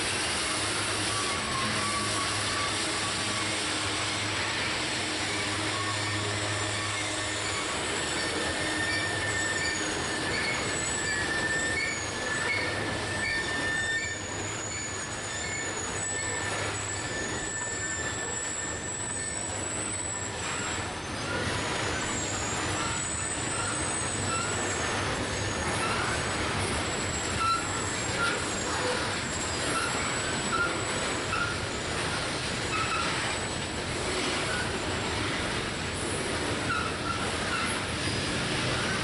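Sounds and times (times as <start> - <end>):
high wavering wheel squeal: 0.0 - 39.0
steel wheels rolling on rail: 0.0 - 39.0.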